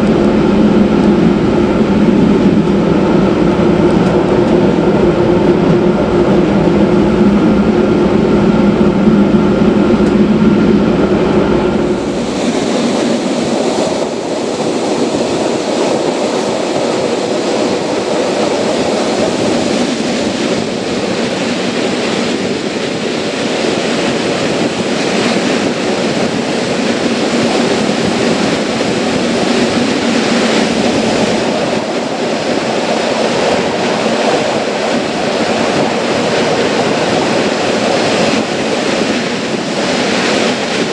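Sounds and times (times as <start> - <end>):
electric train drive whine: 0.0 - 40.9
wheels rushing on rail: 0.0 - 40.9.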